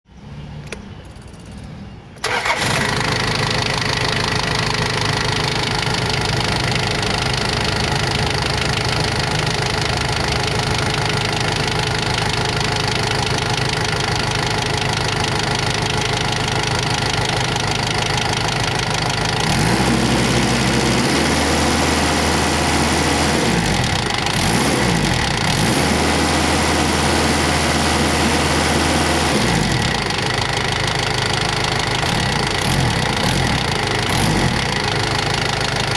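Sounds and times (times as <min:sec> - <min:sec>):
diesel engine idling and revving: 0:00.2 - 0:35.9.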